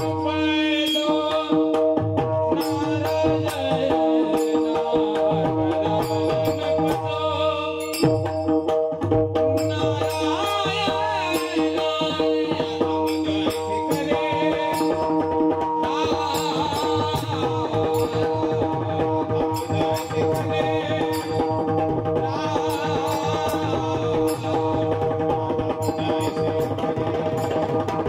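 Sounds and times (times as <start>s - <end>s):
drumming in a steady rhythm: 0.0s - 28.0s
sharp percussive strikes: 0.0s - 28.0s.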